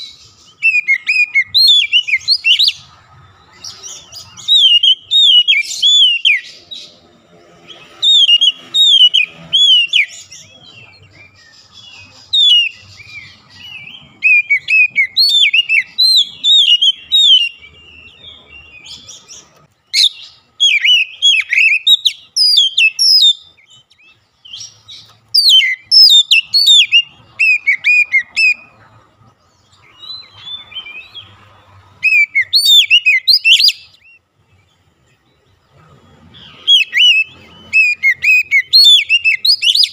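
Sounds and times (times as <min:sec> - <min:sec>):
bird singing whistled notes: 0:00.0 - 0:28.8, 0:29.4 - 0:39.9.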